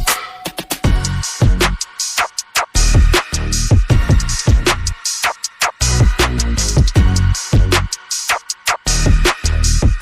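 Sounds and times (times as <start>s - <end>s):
electronic music with drum machine: 0.0s - 10.0s.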